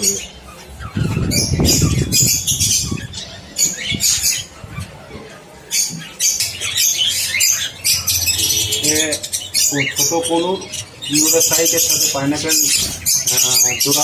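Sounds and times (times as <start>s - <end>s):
parrots squawking and chattering: 0.0s - 14.0s.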